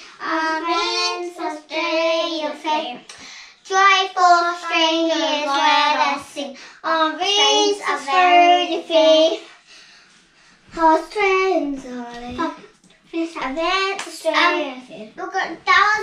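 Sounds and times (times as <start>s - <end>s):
young child singing: 0.0s - 9.5s, 10.7s - 16.0s.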